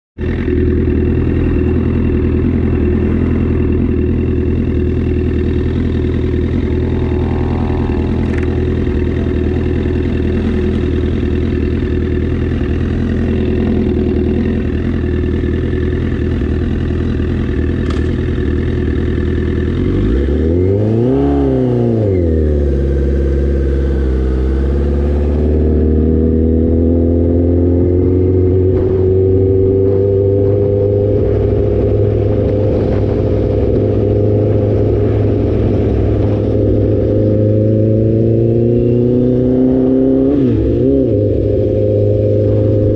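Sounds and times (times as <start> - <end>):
motorcycle engine idling and revving: 0.2 - 42.9.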